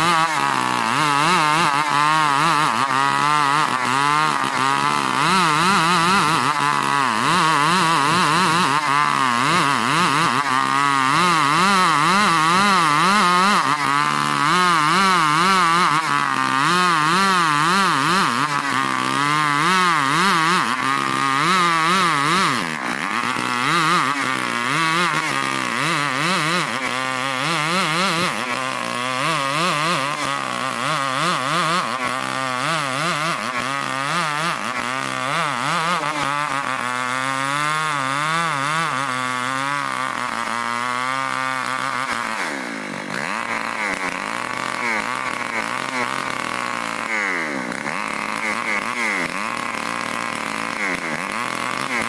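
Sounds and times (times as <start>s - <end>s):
chainsaw ripping wood: 0.0s - 52.0s.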